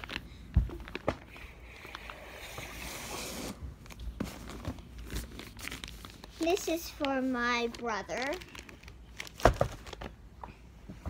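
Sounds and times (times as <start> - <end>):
wrapping paper rustling: 0.0 - 10.2.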